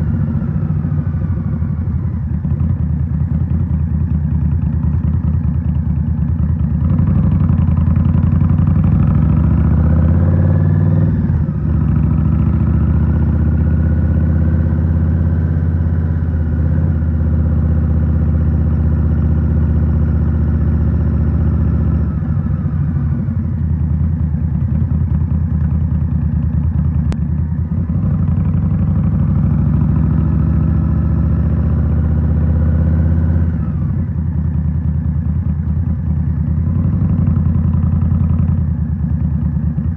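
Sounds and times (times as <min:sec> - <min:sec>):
motorcycle accelerating: 0:00.0 - 0:39.9.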